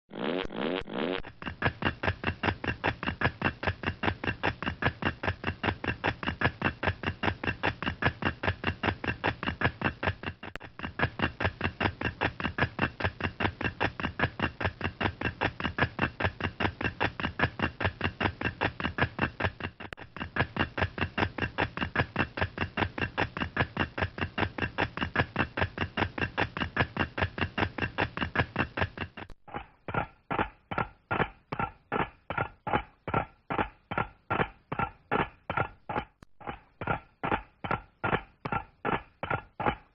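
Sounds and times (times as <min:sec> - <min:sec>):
cartoon galloping hoofbeats: 0:00.1 - 0:39.9.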